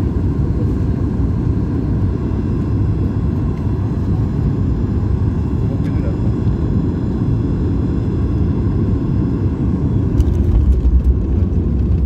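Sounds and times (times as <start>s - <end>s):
aircraft cabin low rumble: 0.0s - 12.0s.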